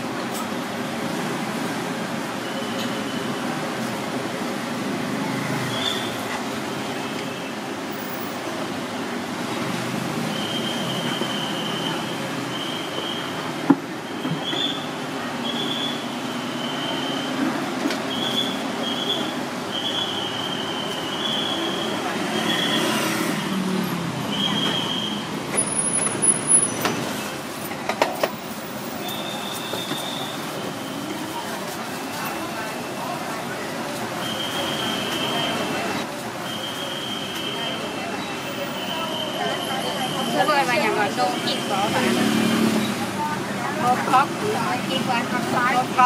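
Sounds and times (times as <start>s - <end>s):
street traffic rumble and hiss: 0.0s - 46.0s.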